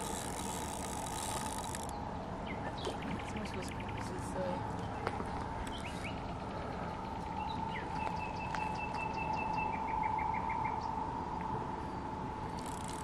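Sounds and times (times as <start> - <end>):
steady high hum: 0.0 - 13.0.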